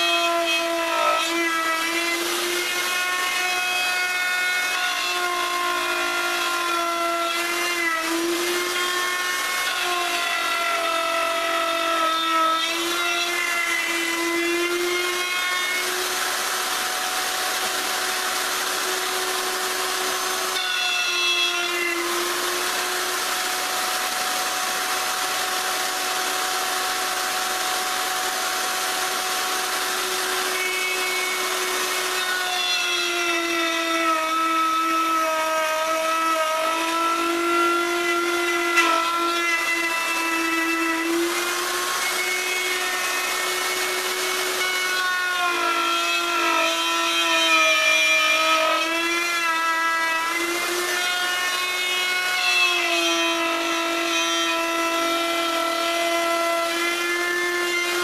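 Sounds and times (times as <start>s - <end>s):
electric router cutting wood: 0.0s - 58.0s.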